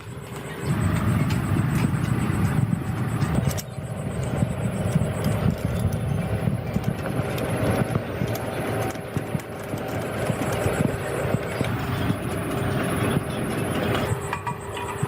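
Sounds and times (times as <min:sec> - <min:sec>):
continuous rattle: 0:00.0 - 0:15.0
electric car rumbling: 0:00.0 - 0:15.0.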